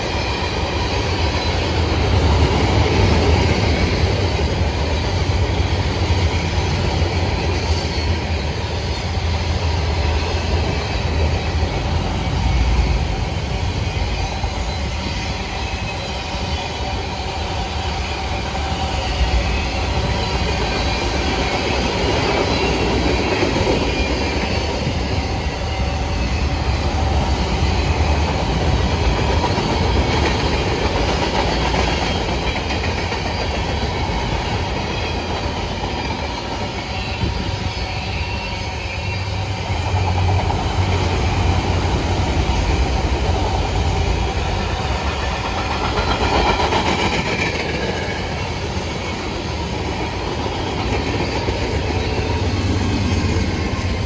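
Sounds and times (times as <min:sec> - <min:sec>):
steel wheels clattering on rails: 0:00.0 - 0:38.8, 0:39.4 - 0:54.0.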